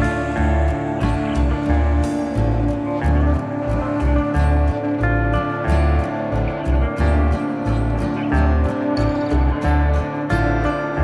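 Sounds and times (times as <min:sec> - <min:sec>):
background music with pulsing bass: 0:00.0 - 0:11.0.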